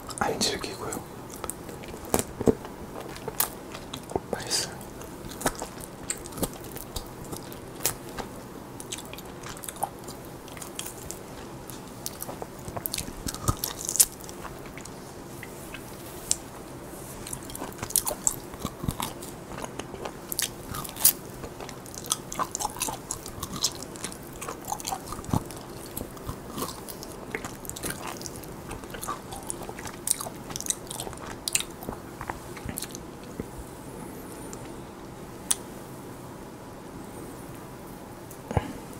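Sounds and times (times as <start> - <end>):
biting and chewing meat: 1.2 - 33.6.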